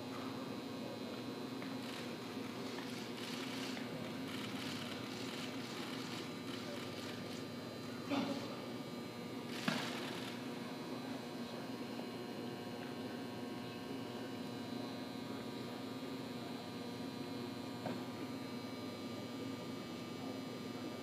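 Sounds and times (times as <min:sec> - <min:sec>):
steady hum of indoor hall: 0:00.0 - 0:21.0.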